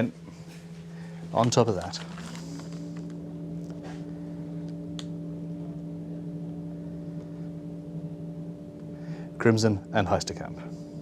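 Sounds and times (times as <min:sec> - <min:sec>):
steady tonal hum: 0:00.0 - 0:11.0.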